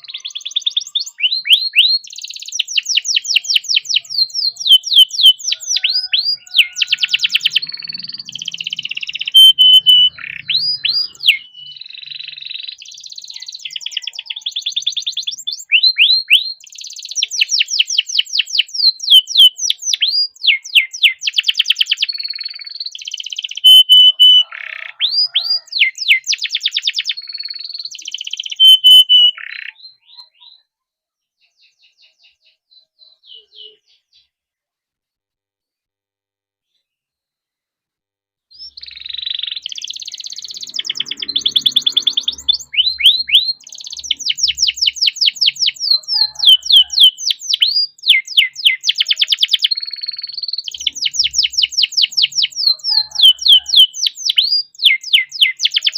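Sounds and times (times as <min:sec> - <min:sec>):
canary singing trills: 0:00.0 - 0:30.8, 0:31.4 - 0:34.4, 0:38.5 - 0:55.9.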